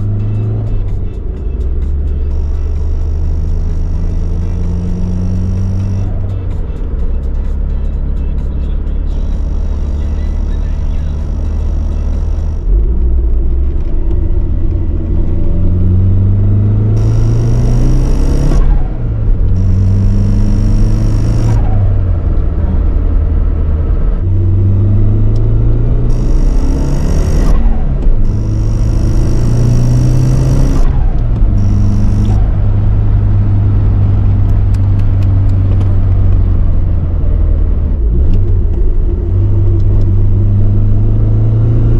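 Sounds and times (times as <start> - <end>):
turbocharged engine revving through gears: 0.0 - 1.1, 1.7 - 41.9
high whine: 0.0 - 41.6.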